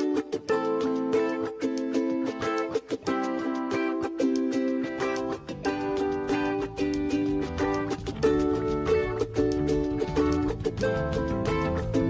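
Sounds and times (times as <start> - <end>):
strummed plucked-string tune: 0.0 - 12.0.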